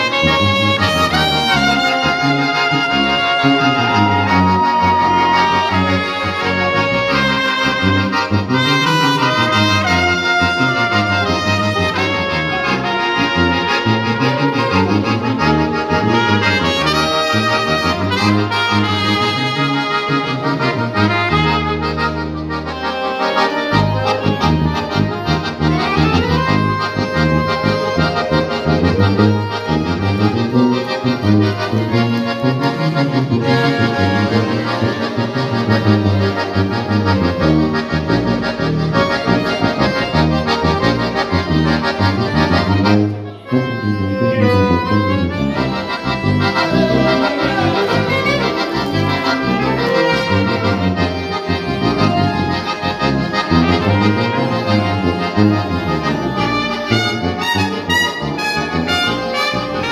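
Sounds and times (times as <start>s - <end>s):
trumpets: 0.0s - 22.4s, 23.1s - 41.2s, 42.0s - 59.9s
accordion melody: 0.0s - 59.9s
tuba: 0.0s - 59.9s.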